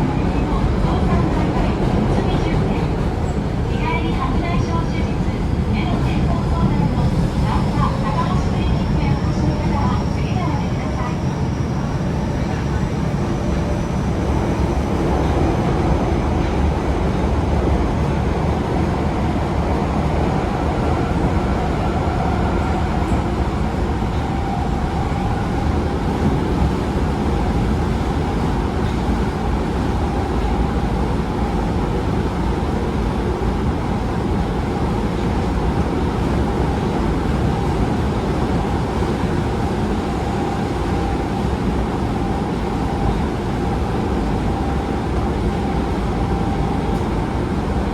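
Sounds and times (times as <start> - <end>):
subway train wheels rumbling: 0.0 - 47.9.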